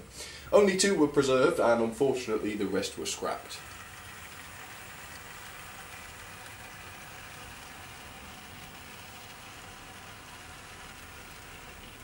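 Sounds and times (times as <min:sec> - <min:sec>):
model train wheels rolling: 0:00.5 - 0:12.0.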